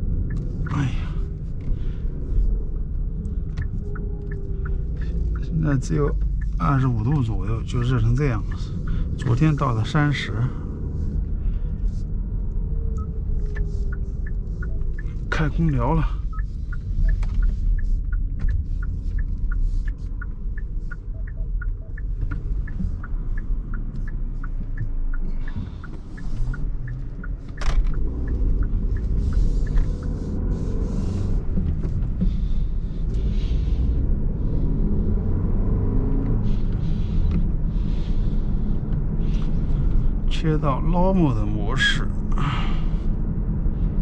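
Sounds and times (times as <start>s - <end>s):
car engine and road rumble: 0.0s - 44.0s
light ticking: 0.1s - 41.9s.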